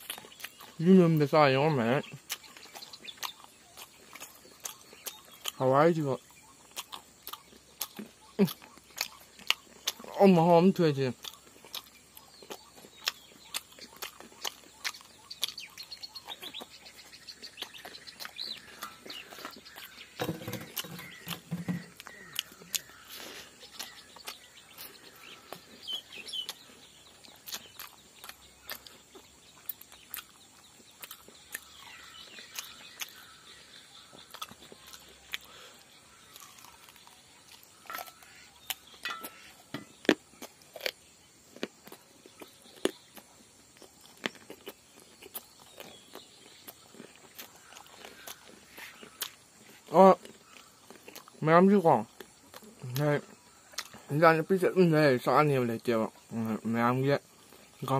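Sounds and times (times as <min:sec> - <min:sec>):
man chewing with mouth clicks: 0:00.0 - 0:01.3, 0:02.0 - 0:05.6, 0:06.2 - 0:10.5, 0:11.1 - 0:51.4, 0:52.0 - 0:54.1, 0:57.3 - 0:57.9
birds chirping faintly: 0:00.0 - 0:57.9.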